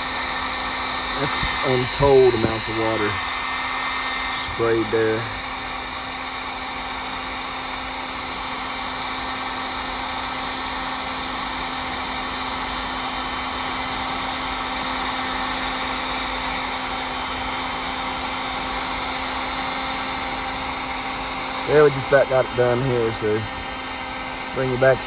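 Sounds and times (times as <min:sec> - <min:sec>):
blower hum: 0:00.0 - 0:25.0
hot-air blower rushing air: 0:00.0 - 0:25.0.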